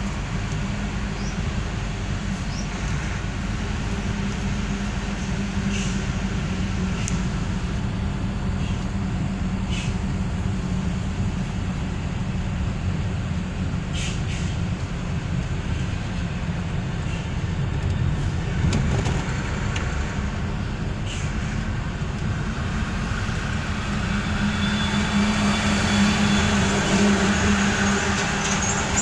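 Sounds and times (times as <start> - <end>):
car road and engine noise: 0.0 - 29.0.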